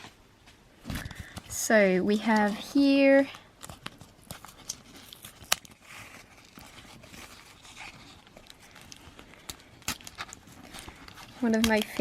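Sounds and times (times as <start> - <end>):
paper rustling and scraping: 0.9 - 12.0.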